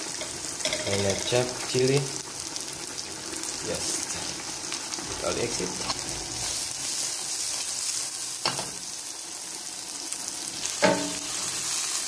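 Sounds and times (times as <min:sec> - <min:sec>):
vegetables sizzling in butter: 0:00.0 - 0:12.0.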